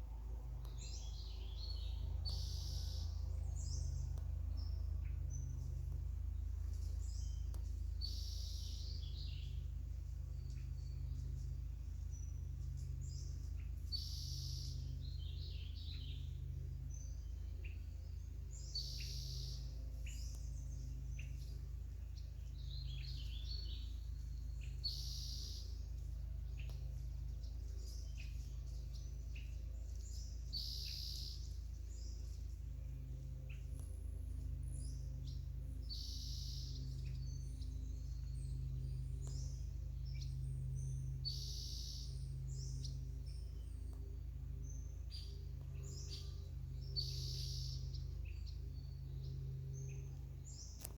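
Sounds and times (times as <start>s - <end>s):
songbird singing: 0.0s - 50.9s
steady low hum: 0.0s - 50.9s
small bird chirps: 0.6s - 50.9s.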